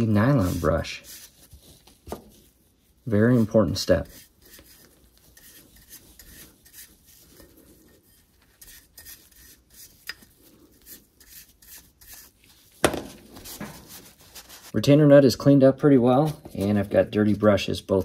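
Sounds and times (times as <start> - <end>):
brush scrubbing threads: 0.0 - 14.8.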